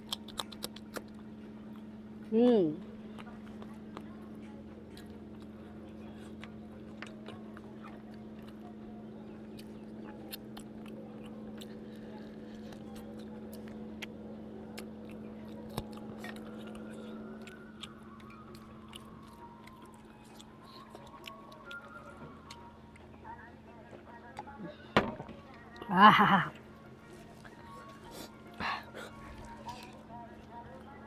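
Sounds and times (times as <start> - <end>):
man chewing with mouth open: 0.0 - 24.8, 25.5 - 31.0
steady low hum: 0.0 - 31.0.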